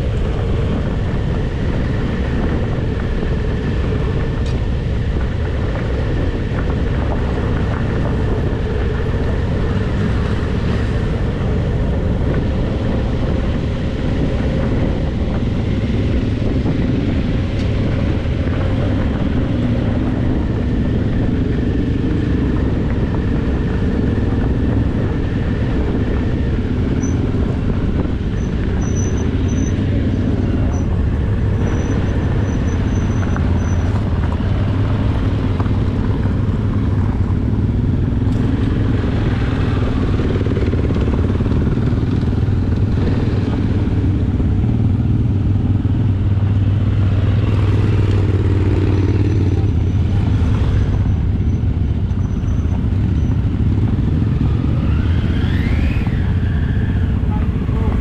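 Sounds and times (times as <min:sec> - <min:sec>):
motorcycle engine running: 0:00.0 - 0:58.0
other motorcycles nearby: 0:00.0 - 0:58.0.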